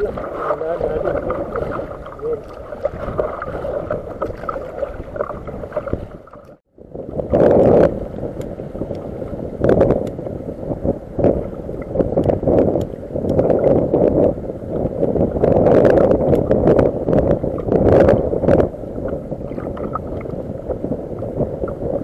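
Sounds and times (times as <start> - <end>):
water splashing against kayak hull: 0.0 - 22.0.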